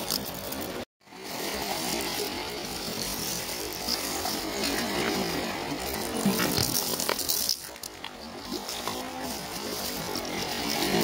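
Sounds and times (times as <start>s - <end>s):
hand raking through seashells: 0.0s - 11.0s.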